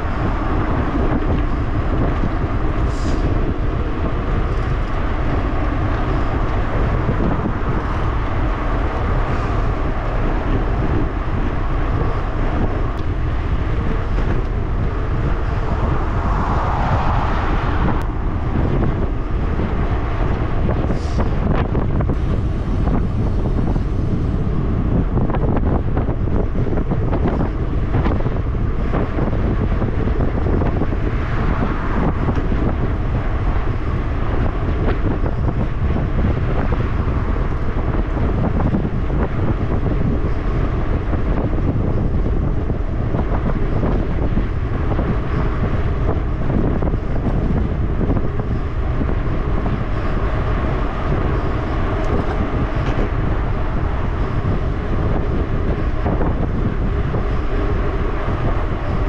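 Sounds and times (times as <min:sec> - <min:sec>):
heavy low rumble: 0:00.0 - 0:59.0
wind buffeting microphone: 0:00.0 - 0:59.0.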